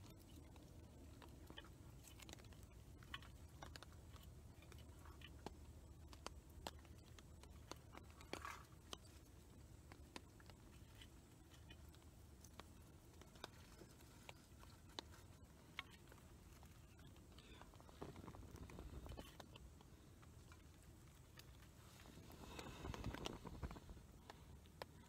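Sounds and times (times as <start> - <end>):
small fire crackling: 0.0 - 25.0.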